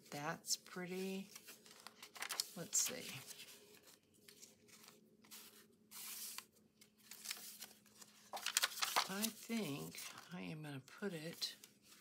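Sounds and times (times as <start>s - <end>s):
cardstock pages rustling and flipping: 0.8s - 10.4s, 11.1s - 12.0s.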